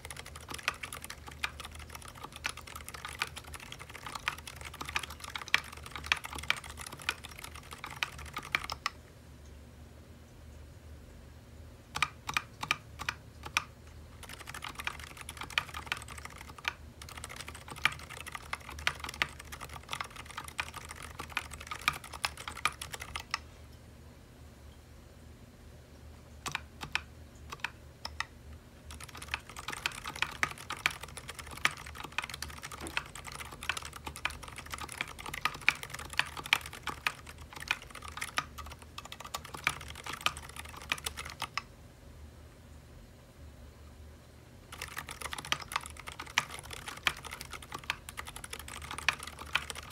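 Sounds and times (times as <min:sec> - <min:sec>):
muted mechanical keyboard typing: 0:00.0 - 0:09.0, 0:11.9 - 0:23.4, 0:26.4 - 0:28.3, 0:28.9 - 0:41.7, 0:44.7 - 0:49.9.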